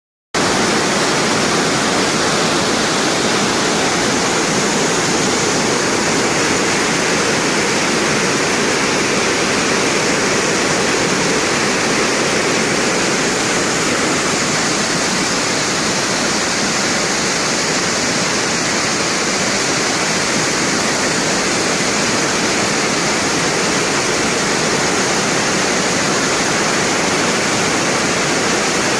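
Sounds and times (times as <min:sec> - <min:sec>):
small waterfall splashing: 0:00.4 - 0:28.9.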